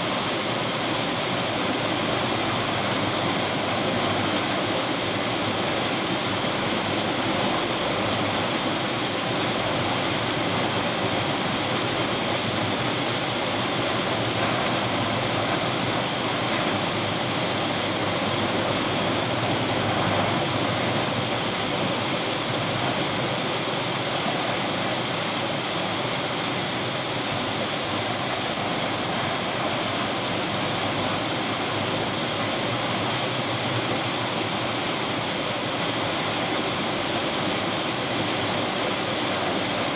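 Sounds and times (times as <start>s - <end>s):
storm over rough sea: 0.0s - 39.9s.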